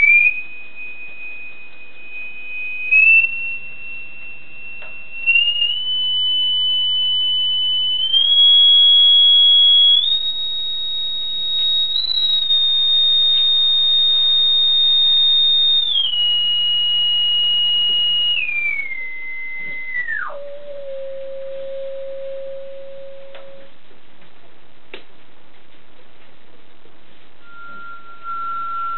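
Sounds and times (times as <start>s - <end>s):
sine test tone sweeping: 0.0s - 24.3s, 26.7s - 28.9s.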